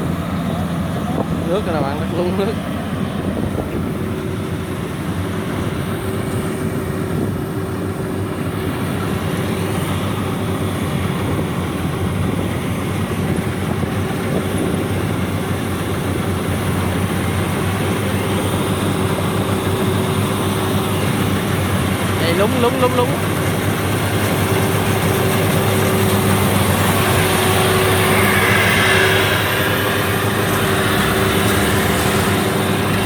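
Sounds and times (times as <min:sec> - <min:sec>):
combine harvester engine droning: 0:00.0 - 0:33.0.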